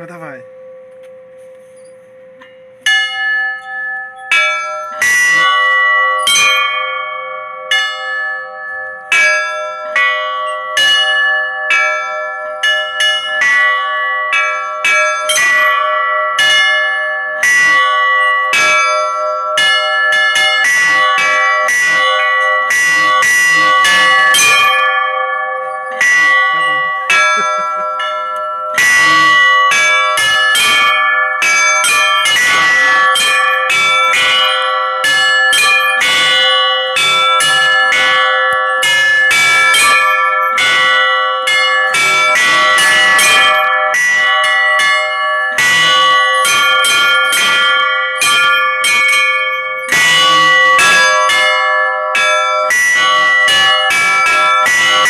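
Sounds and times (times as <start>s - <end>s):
church bells ringing: 0.0s - 55.0s.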